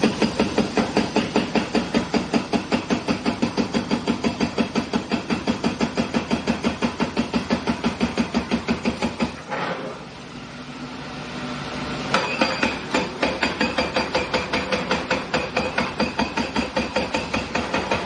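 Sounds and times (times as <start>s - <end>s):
hydraulic breaker hammering concrete: 0.0s - 10.1s, 12.1s - 18.0s.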